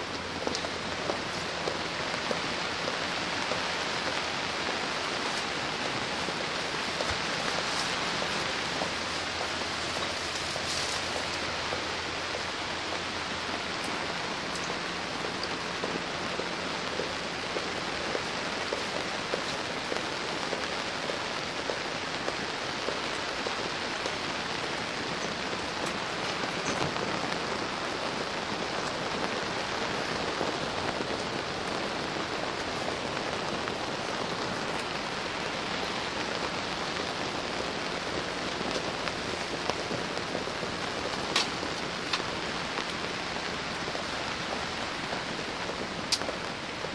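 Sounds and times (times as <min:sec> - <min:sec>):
rain on tent fabric: 0:00.0 - 0:46.9.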